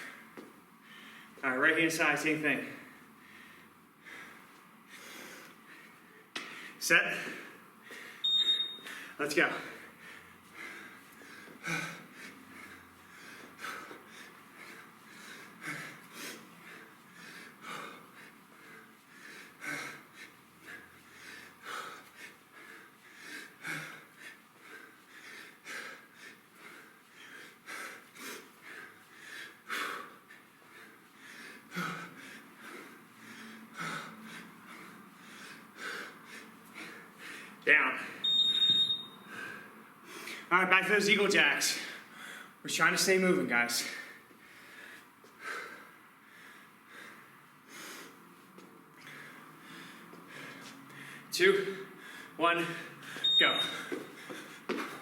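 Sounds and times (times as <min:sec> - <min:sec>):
person breathing: 0:00.0 - 0:01.4, 0:02.6 - 0:38.2, 0:39.2 - 0:40.5, 0:41.8 - 0:42.6, 0:43.8 - 0:48.4, 0:49.0 - 0:55.0.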